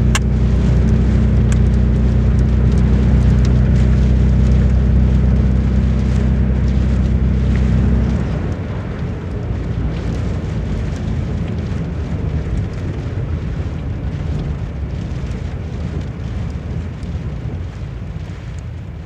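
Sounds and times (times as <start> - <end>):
heavy rain falling: 0.0 - 19.0
strong wind: 0.0 - 19.0.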